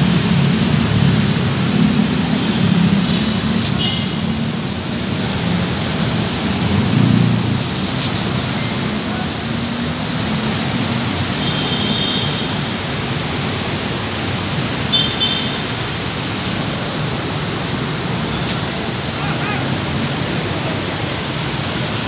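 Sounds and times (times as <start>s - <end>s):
heavy rain hiss: 0.0s - 22.0s
wet street noise: 0.0s - 22.0s.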